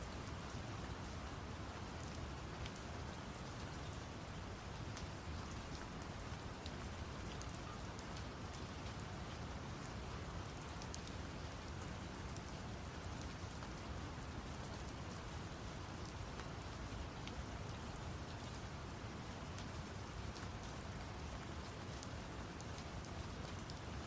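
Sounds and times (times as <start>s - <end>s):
steady rain with drop ticks: 0.0s - 24.0s.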